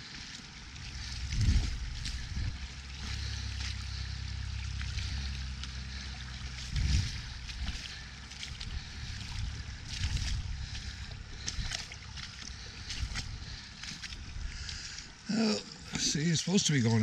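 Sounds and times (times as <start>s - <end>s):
water trickling over a trail: 0.0s - 17.0s
wind rumble on microphone: 0.6s - 15.0s.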